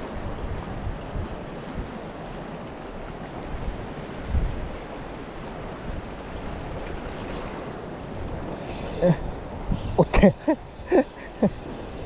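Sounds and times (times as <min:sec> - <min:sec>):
sea surf against rocks: 0:00.0 - 0:12.0
wind: 0:00.0 - 0:12.0
wind buffeting microphone: 0:00.0 - 0:12.0.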